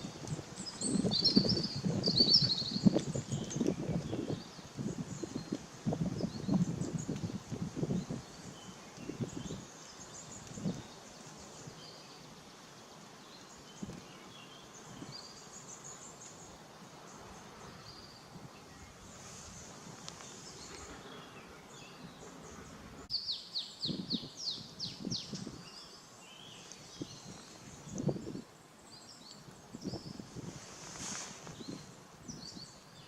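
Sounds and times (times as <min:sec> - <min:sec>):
songbirds chirping: 0:00.0 - 0:33.0
steady outdoor hiss: 0:00.0 - 0:33.0.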